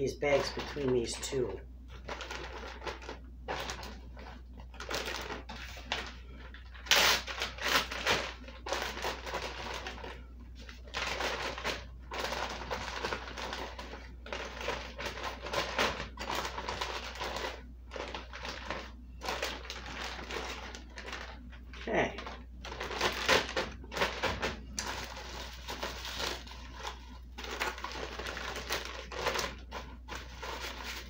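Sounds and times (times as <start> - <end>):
plastic bag crinkling: 0.0 - 31.0.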